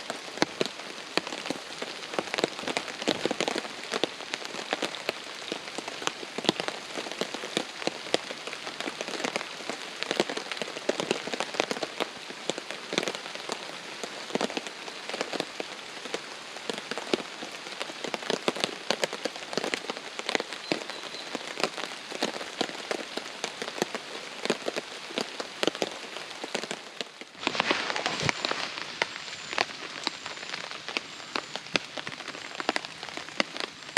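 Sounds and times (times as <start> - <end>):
heavy rain drumming on a tarp: 0.0 - 33.9
steady rain hiss: 0.0 - 33.9.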